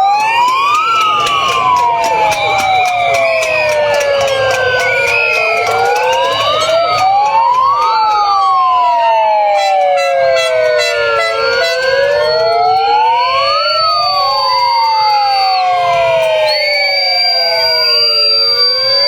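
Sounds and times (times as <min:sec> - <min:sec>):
sirens wailing: 0:00.0 - 0:19.0.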